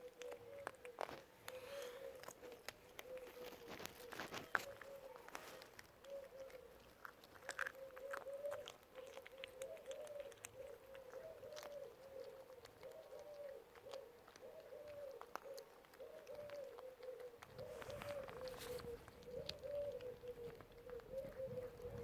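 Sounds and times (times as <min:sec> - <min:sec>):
bird cooing: 0:00.0 - 0:22.0.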